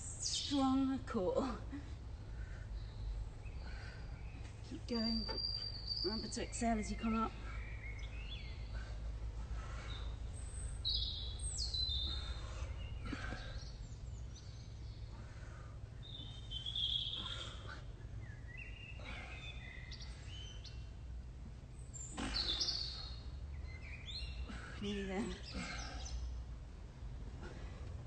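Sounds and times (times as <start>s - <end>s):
low background rumble: 0.0s - 28.0s
birds chirping and whistling: 2.6s - 26.4s.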